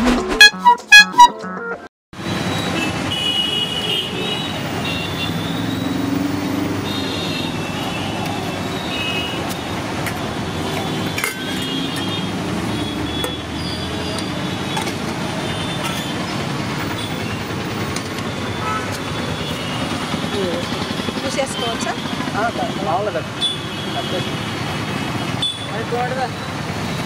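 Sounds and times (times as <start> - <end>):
busy road traffic: 0.4 - 27.0.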